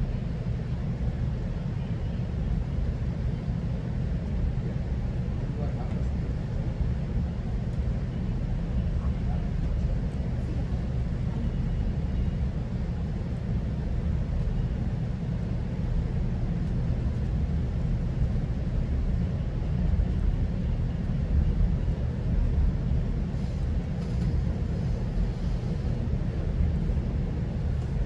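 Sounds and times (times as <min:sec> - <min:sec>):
train rumbling on tracks: 0:00.0 - 0:28.0.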